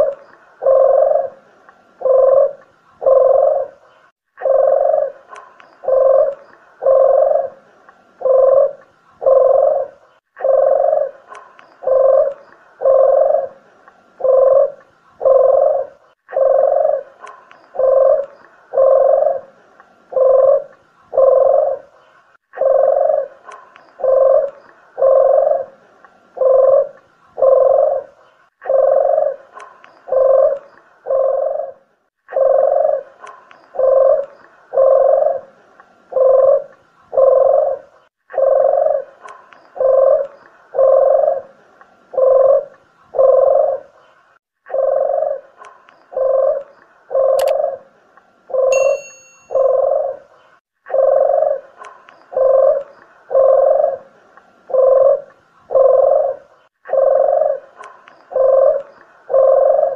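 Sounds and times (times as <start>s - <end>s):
dove cooing: 0.0s - 44.1s, 44.7s - 59.9s.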